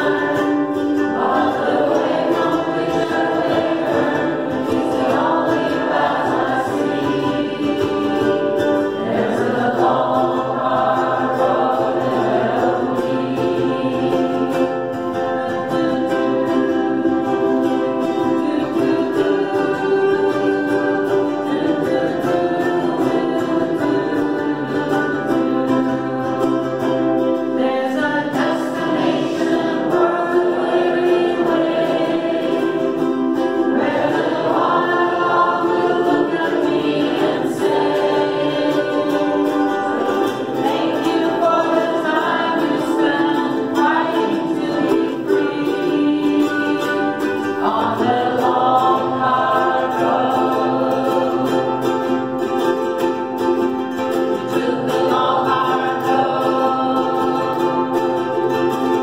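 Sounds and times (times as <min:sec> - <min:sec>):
strummed ukuleles: 0:00.0 - 0:59.0
voices singing together: 0:00.0 - 0:59.0.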